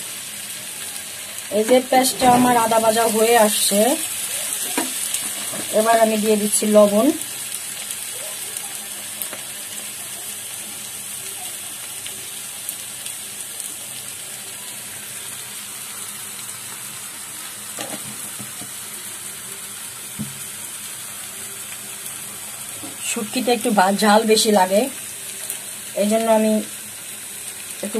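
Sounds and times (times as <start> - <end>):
onions sizzling in oil: 0.0 - 27.9.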